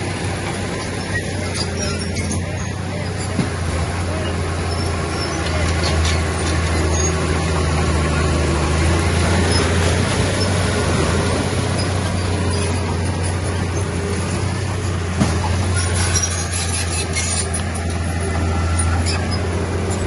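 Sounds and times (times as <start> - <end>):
heavy machinery diesel engine running: 0.0 - 20.0.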